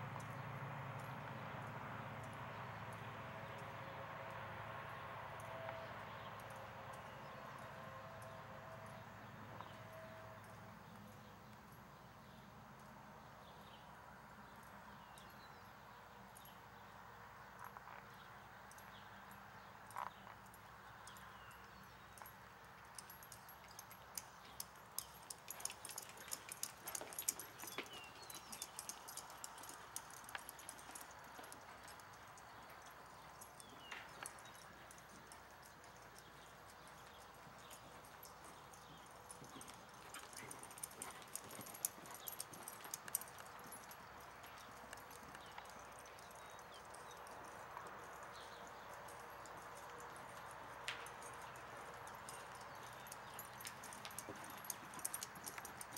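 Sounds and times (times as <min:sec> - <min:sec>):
horse hooves on sand: 0:05.4 - 0:55.9.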